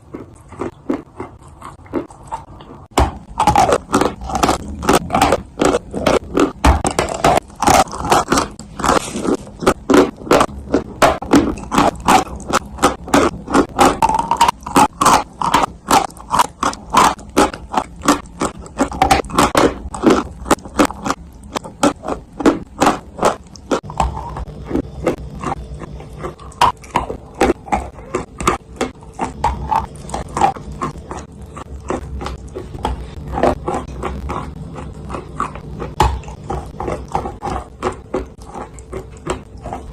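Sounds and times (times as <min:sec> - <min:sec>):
crisp crunching of chewing: 0:00.0 - 0:39.9
low steady hum: 0:00.0 - 0:39.9.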